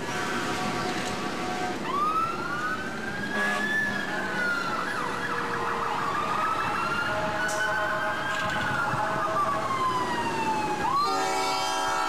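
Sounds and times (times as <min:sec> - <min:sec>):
siren wailing: 0:01.5 - 0:12.0.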